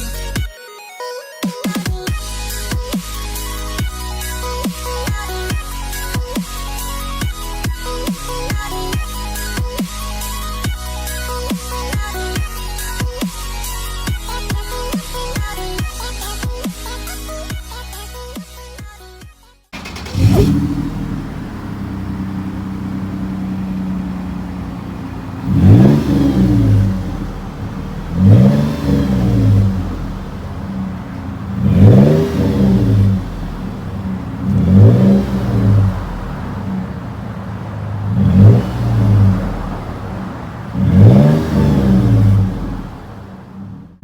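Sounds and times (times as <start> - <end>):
car engine idling and revving: 0.0 - 0.5, 2.0 - 18.8, 19.8 - 44.0.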